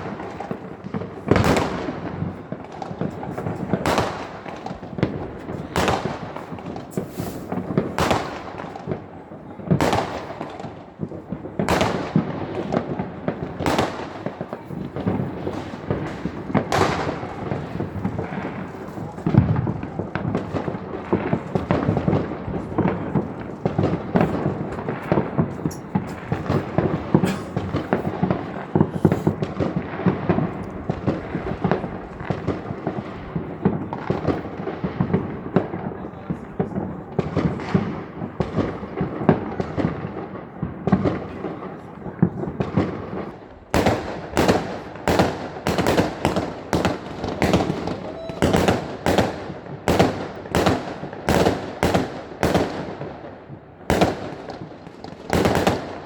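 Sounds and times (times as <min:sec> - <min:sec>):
sharp firework bangs: 0:00.0 - 0:53.2, 0:53.8 - 0:56.0
fireworks crackling and banging: 0:00.0 - 0:56.0.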